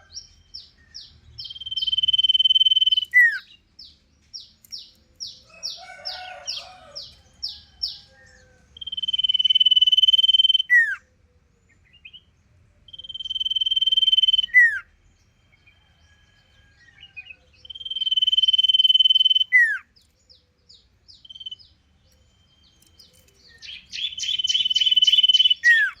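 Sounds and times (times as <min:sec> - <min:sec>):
songbird whistling and chirping: 0:00.0 - 0:26.0.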